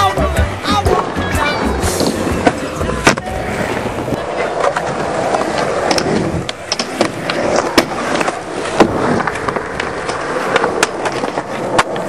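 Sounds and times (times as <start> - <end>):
skateboard wheels rolling on concrete: 0.0 - 12.0
skateboard clacking on ground: 0.7 - 12.0.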